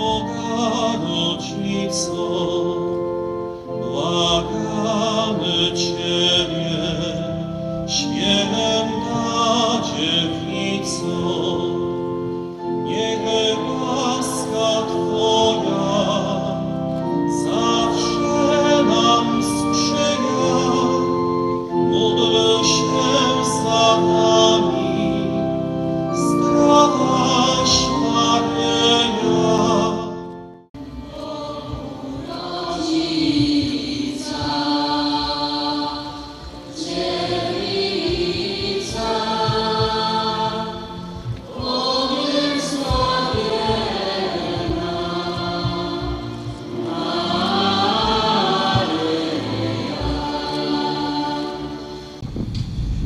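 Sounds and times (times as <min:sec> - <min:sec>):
choir singing a hymn: 0:00.0 - 0:52.2
sustained accompaniment: 0:00.0 - 0:53.0.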